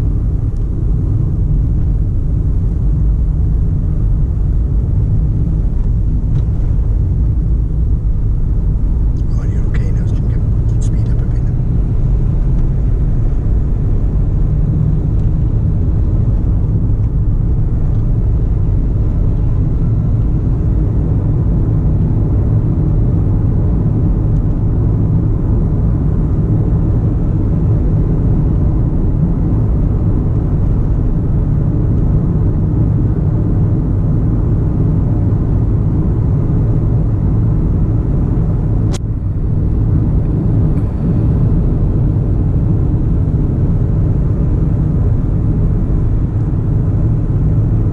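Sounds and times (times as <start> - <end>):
car driving on road: 0.0 - 47.9.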